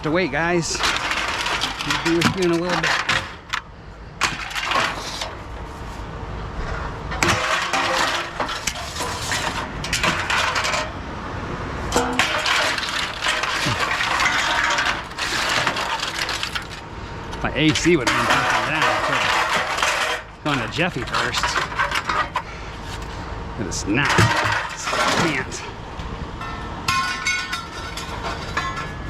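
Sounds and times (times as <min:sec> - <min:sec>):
scrap metal clattering: 0:00.0 - 0:11.1, 0:11.7 - 0:25.8, 0:26.4 - 0:29.0.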